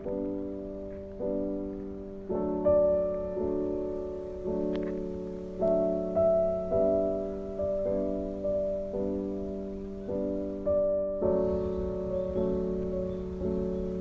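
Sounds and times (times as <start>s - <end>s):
slow gentle piano chords: 0.0s - 14.0s.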